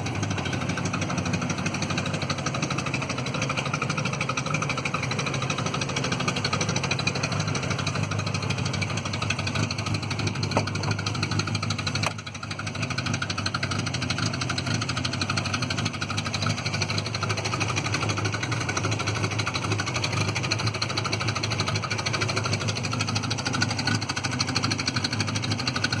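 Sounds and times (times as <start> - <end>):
car engine idling with exhaust leak: 0.0 - 26.0.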